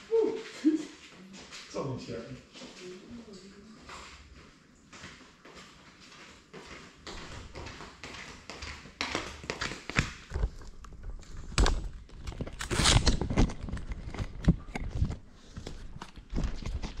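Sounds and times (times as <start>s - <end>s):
footsteps on tiled floor: 0.0s - 12.4s, 13.5s - 17.0s.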